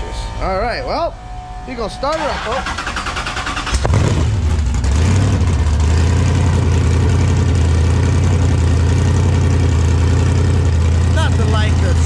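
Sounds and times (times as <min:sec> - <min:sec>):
engine idling with low rumble: 0:00.0 - 0:12.0.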